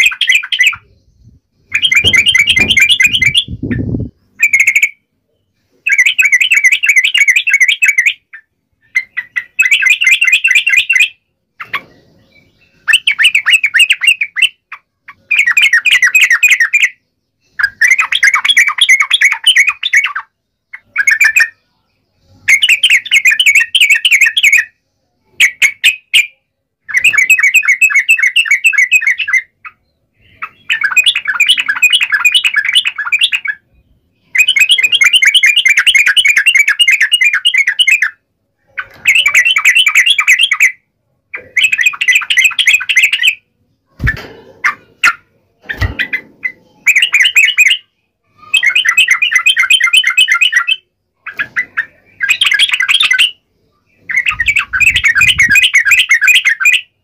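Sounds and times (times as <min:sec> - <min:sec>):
birds chattering loudly: 0:00.0 - 0:21.6, 0:26.8 - 0:57.0.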